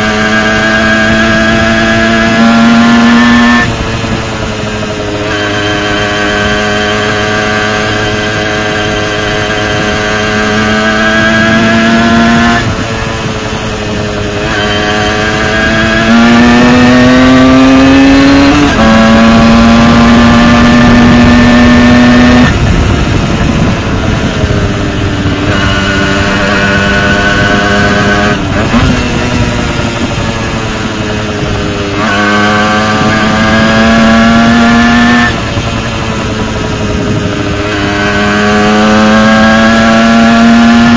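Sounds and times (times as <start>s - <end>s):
moped engine revving high: 0.0s - 40.9s.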